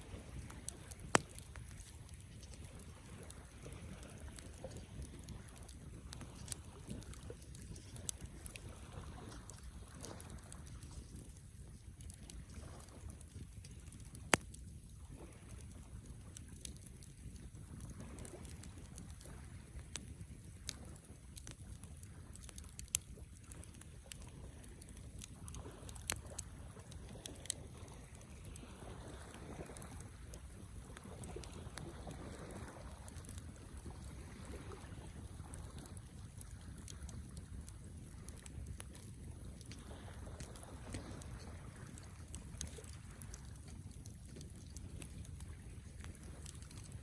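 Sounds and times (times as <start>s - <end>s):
campfire flames rumbling: 0.0s - 47.0s
fire crackles and pops: 0.0s - 47.0s.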